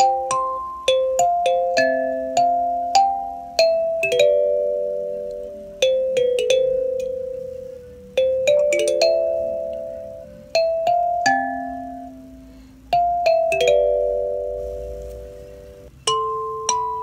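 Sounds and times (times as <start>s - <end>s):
kalimba played slowly: 0.0s - 17.0s.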